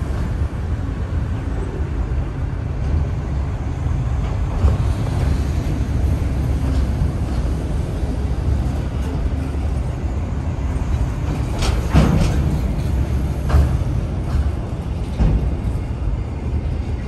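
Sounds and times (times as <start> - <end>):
heavy vehicle rumbling: 0.0 - 17.0.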